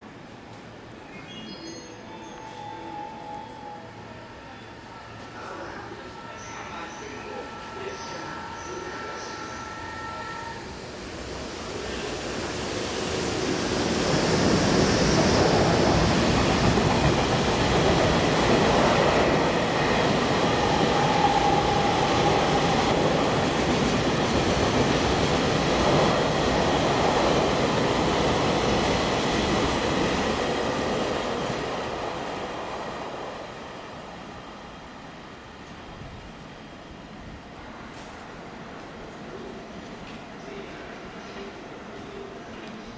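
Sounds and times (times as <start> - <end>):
freight train wheels rumbling: 3.5 - 42.9.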